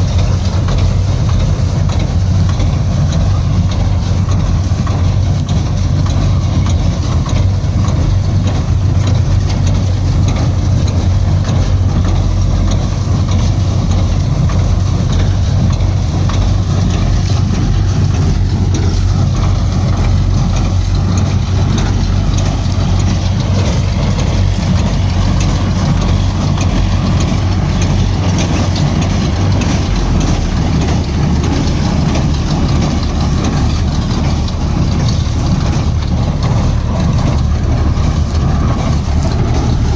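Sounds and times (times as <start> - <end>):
deep hum: 0.0 - 39.9
machinery running: 0.0 - 39.9.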